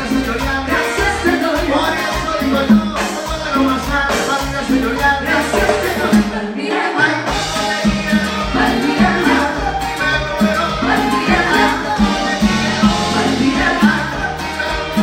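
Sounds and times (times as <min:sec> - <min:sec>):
latin dance band playing: 0:00.0 - 0:15.0.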